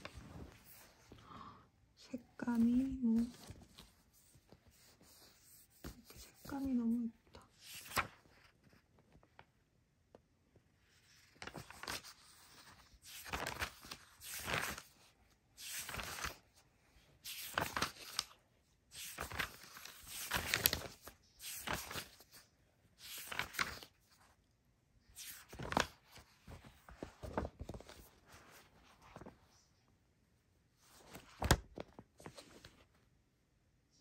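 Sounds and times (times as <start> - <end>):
magazine pages rustling: 0.0 - 1.2, 2.6 - 9.5, 10.8 - 24.4, 25.0 - 29.7, 30.8 - 33.0.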